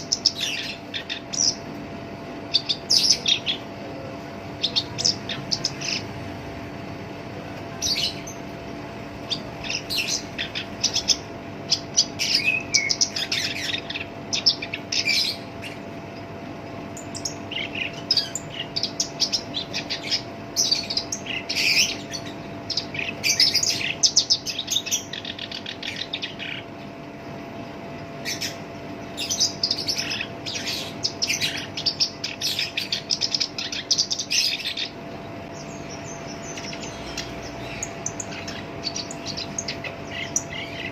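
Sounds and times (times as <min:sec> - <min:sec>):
bird singing harsh chattering notes: 0:00.0 - 0:06.2, 0:07.7 - 0:40.9.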